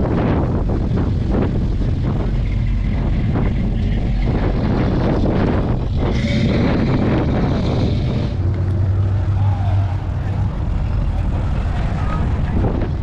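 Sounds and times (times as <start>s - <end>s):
car engines driving past: 0.0s - 13.0s
wind buffeting microphone: 0.0s - 13.0s.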